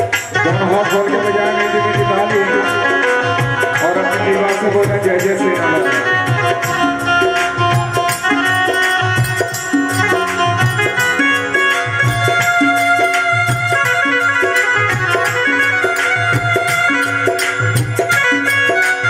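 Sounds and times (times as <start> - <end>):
hand drum beat: 0.0 - 19.0
keyboard melody: 0.0 - 19.0.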